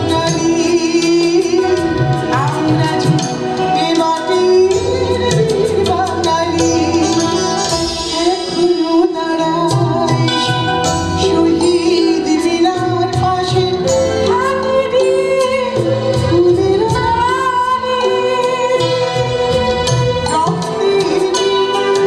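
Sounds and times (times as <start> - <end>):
electric guitar: 0.0 - 22.0
keyboard: 0.0 - 22.0
tabla: 0.0 - 22.0
woman singing into microphone: 0.0 - 22.0.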